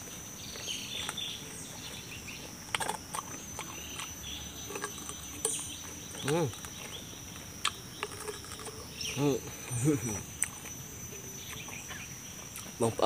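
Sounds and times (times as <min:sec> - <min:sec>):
crunching and chewing: 0:00.0 - 0:13.0
high-pitched insect drone: 0:00.0 - 0:13.0.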